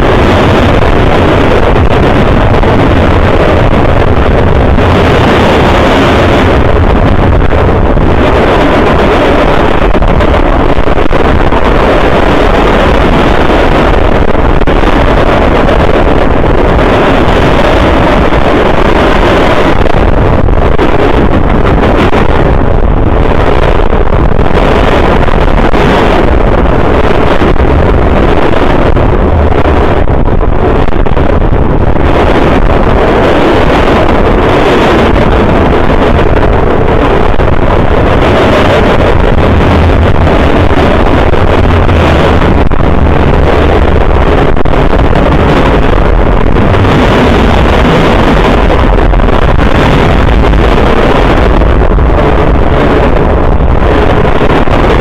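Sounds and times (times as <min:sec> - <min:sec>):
wind buffeting: 0:00.0 - 0:55.0.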